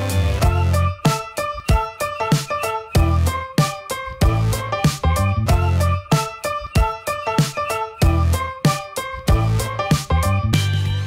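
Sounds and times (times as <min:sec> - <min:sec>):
instrumental music with drums: 0:00.0 - 0:11.0.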